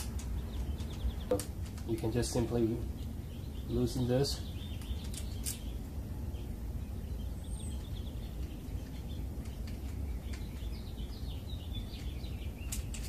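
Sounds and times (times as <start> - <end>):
faint birds chirping: 0.0 - 13.0
steady low rumble: 0.0 - 13.0.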